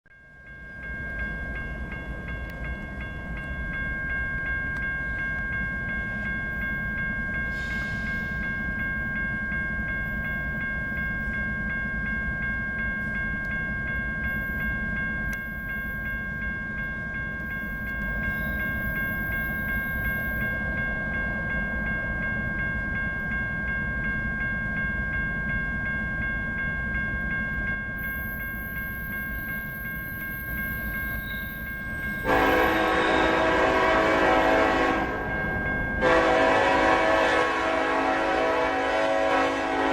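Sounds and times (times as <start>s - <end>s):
freight train rumbling on rails: 0.2s - 39.9s.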